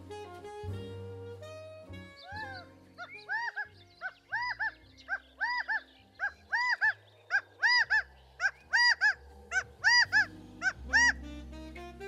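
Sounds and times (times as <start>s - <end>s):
soft background music: 0.0s - 12.0s
quail calling: 2.0s - 12.0s.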